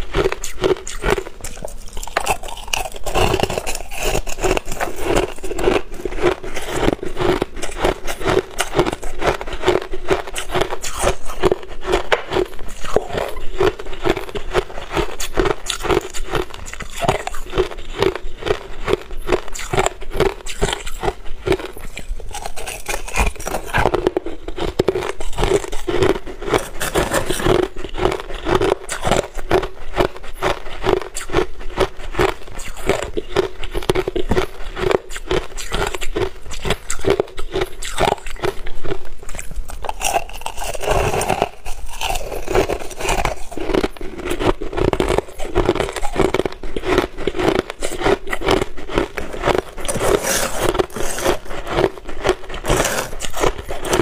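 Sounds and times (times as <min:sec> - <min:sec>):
crushed ice crunching while chewed: 0:00.0 - 0:54.0.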